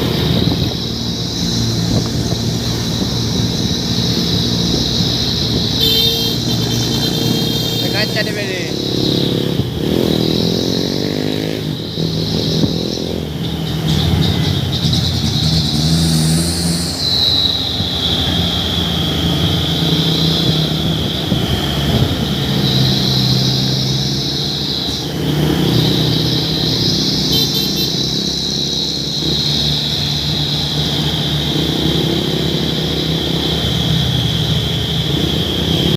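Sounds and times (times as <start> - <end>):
diesel truck engine: 0.0 - 35.9
high-pitched whine: 0.0 - 35.9.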